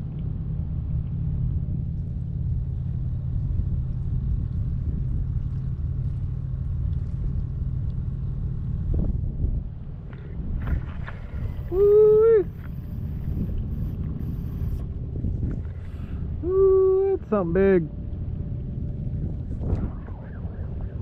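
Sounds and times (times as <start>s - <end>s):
boat motor rumbling: 0.0s - 21.0s.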